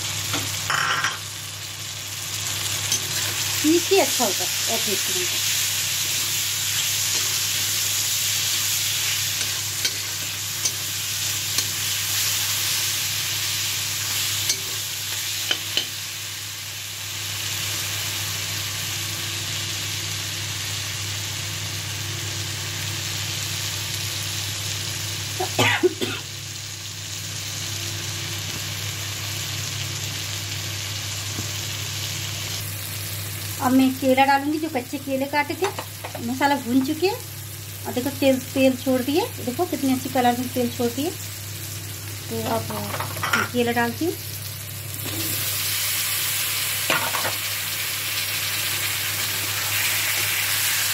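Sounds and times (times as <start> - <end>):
sauce sizzling in oil: 0.0 - 50.9.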